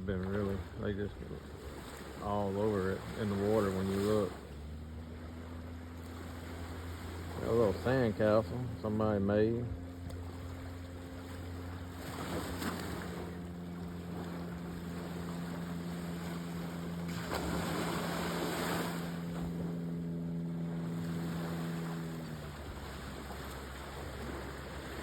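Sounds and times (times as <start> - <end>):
steady motor drone: 0.0 - 25.0
surf washing on beach: 0.0 - 25.0.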